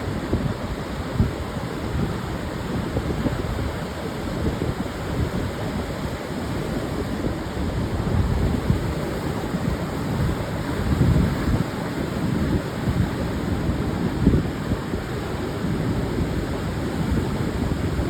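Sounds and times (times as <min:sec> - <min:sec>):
waves washing on beach: 0:00.0 - 0:18.0.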